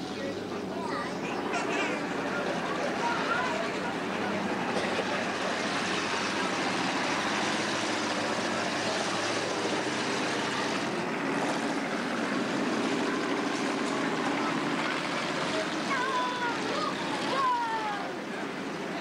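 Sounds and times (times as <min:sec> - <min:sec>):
distant race car engines: 0:00.0 - 0:19.0.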